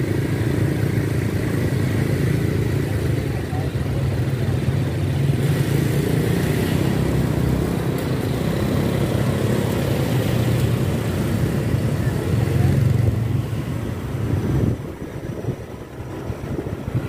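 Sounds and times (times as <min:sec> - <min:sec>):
small motorcycle engine running: 0:00.0 - 0:13.7
wind and road noise: 0:00.0 - 0:17.0.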